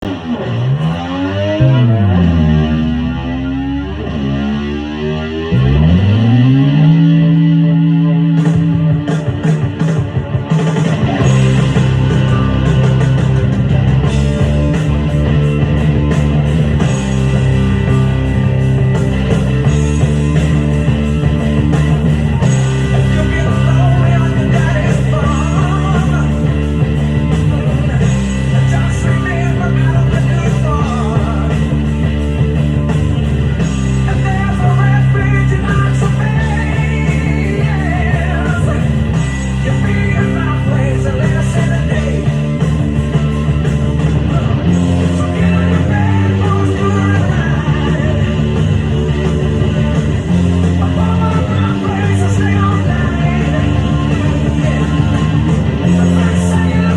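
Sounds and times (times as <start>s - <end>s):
electric bass: 0.0s - 56.9s
guitar sliding up in pitch: 0.0s - 56.9s
rock band with drums: 0.0s - 56.9s.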